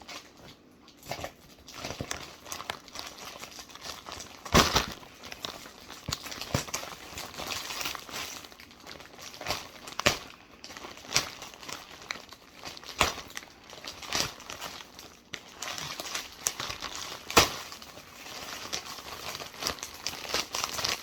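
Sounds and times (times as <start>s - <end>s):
package crinkling and rustling: 0.0s - 21.0s.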